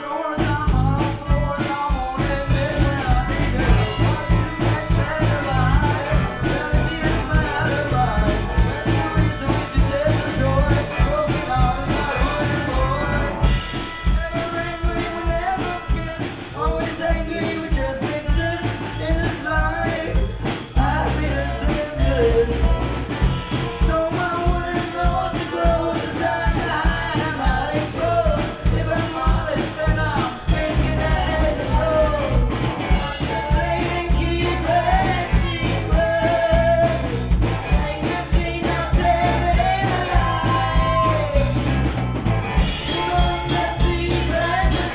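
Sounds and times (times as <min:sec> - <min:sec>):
person singing: 0:00.0 - 0:41.9, 0:42.6 - 0:44.9
accordion: 0:00.0 - 0:44.9
bass: 0:00.0 - 0:44.9
drum beat: 0:00.0 - 0:44.9
guitar: 0:00.0 - 0:44.9.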